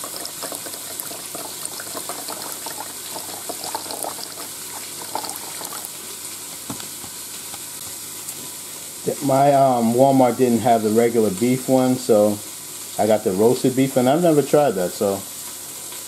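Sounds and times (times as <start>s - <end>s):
liquid pouring and splashing: 0.0s - 16.0s
meat sizzling: 0.0s - 16.0s.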